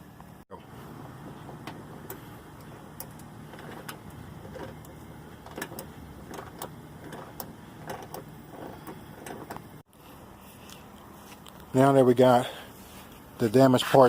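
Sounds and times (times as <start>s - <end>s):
low steady hum: 0.0s - 13.8s.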